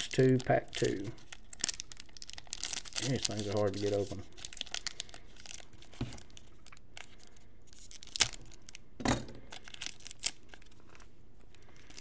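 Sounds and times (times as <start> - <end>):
wrapper snapping: 0.0 - 8.8, 9.5 - 12.0
foil wrapper crinkling and tearing: 0.0 - 8.9, 9.5 - 12.0.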